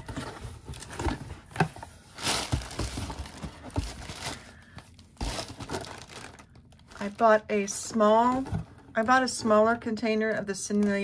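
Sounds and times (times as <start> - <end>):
cardboard and plastic rustle: 0.0 - 11.0
packages being moved: 0.0 - 11.0.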